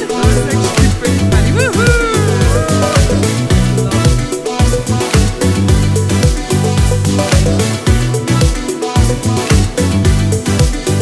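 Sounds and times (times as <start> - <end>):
music with kick drum and bass: 0.0 - 11.0.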